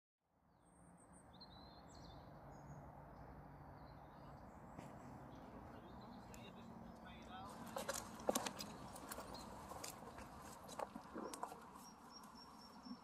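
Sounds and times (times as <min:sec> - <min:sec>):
faint outdoor ambience: 0:00.3 - 0:13.0
small birds chirping: 0:00.6 - 0:13.0.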